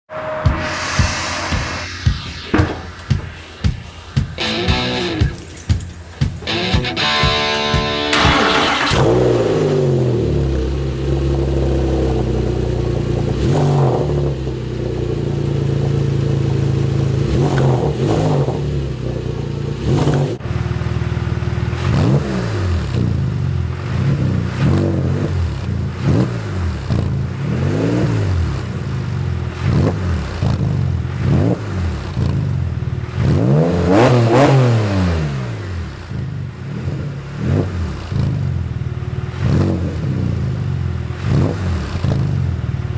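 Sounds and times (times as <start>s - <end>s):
car engine idling and revving: 4.0s - 42.9s.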